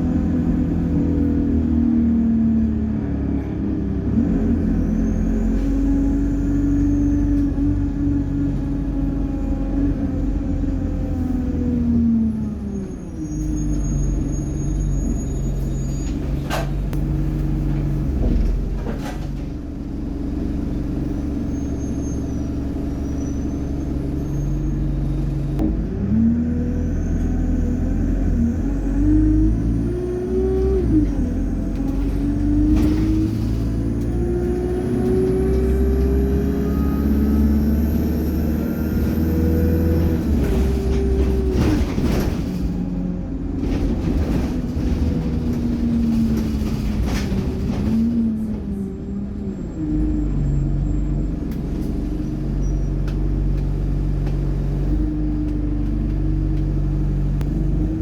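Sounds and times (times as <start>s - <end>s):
bus diesel engine accelerating: 0.0s - 58.0s.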